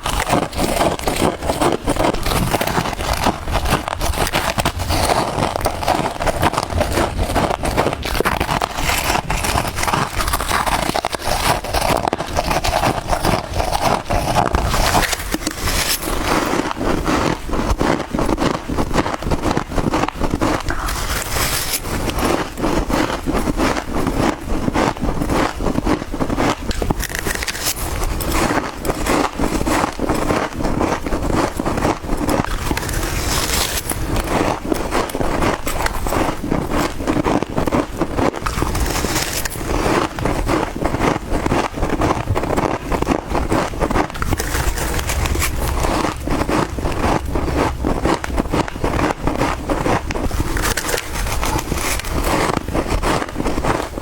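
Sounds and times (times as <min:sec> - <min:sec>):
crunching and chewing frost: 0:00.0 - 0:54.0.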